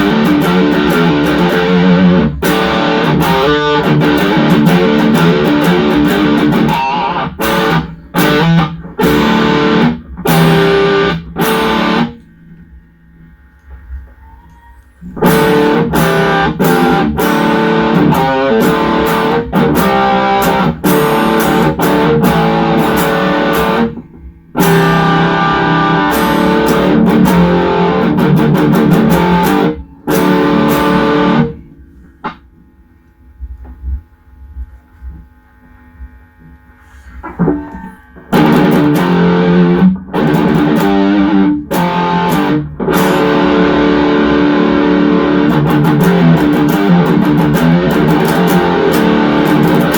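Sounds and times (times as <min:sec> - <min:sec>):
distorted electric guitar riffs: 0:00.0 - 0:49.9.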